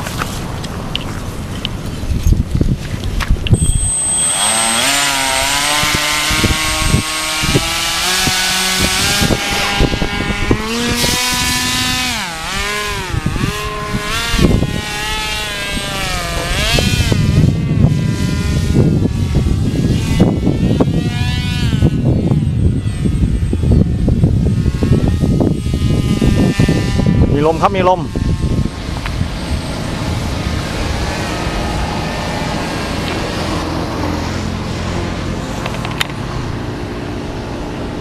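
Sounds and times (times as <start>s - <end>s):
paramotor engine and propeller revving: 3.5s - 38.0s.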